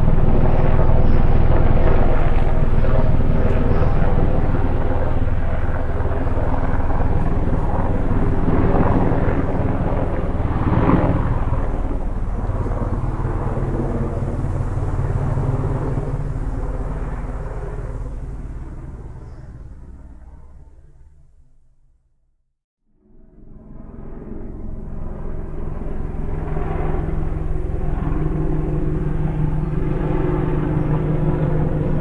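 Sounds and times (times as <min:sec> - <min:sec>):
helicopter rotor drone: 0:00.0 - 0:21.6, 0:23.0 - 0:32.0.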